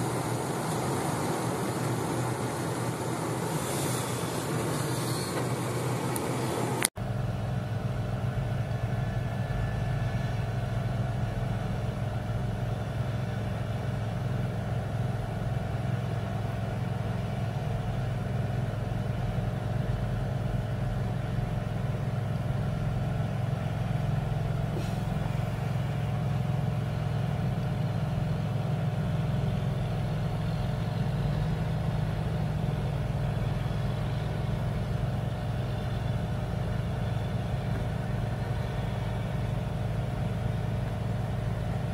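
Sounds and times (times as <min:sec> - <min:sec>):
diesel truck engines running: 0:00.0 - 0:41.9.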